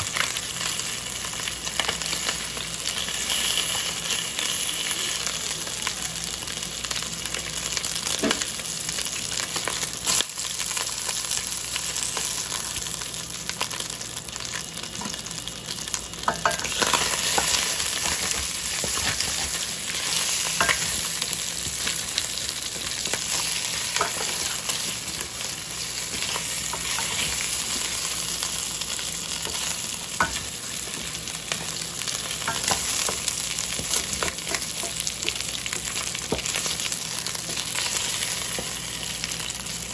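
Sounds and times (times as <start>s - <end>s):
chicken sizzling in oil: 0.0s - 39.9s
oil crackling and popping: 7.1s - 39.9s.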